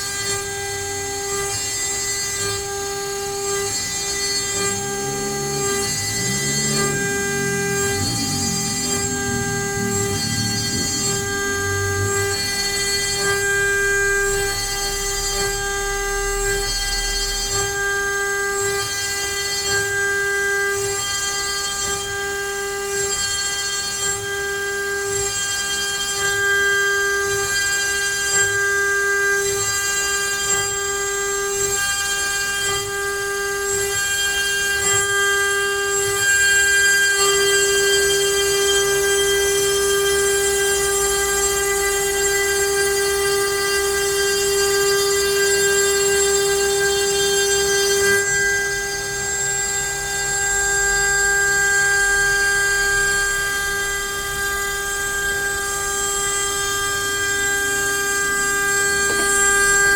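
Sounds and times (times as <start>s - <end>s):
router bit cutting wood: 0.0s - 59.9s
router spindle high whine: 0.0s - 59.9s.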